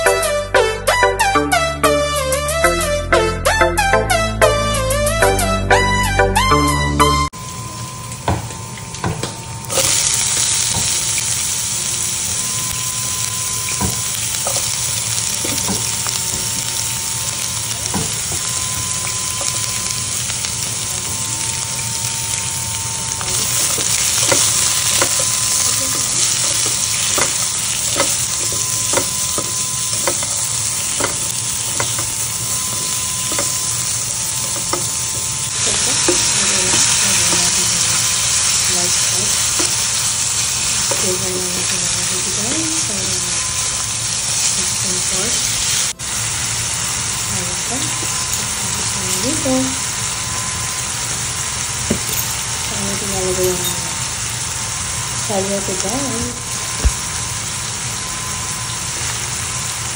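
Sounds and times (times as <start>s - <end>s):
onions sizzling in hot oil: 7.4s - 59.9s.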